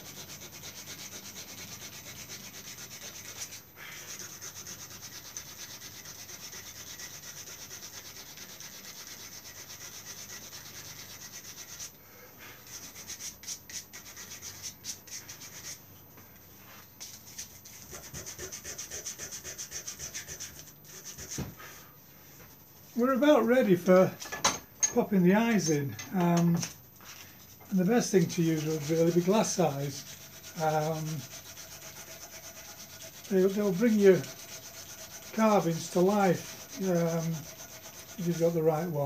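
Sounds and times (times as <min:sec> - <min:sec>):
hand sanding wood: 0:00.0 - 0:15.9, 0:16.6 - 0:21.9, 0:27.0 - 0:39.0.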